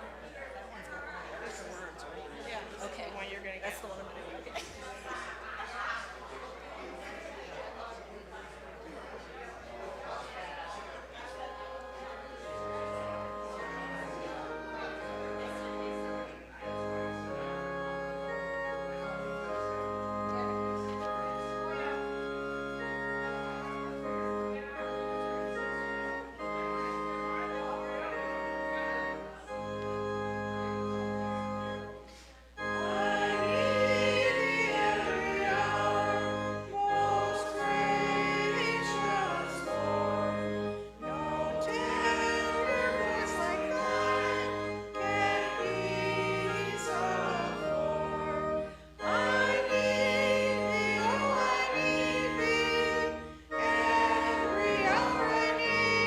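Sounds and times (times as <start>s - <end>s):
organ playing chords: 0.0s - 4.2s, 9.4s - 56.0s
voices singing a hymn: 9.2s - 56.0s.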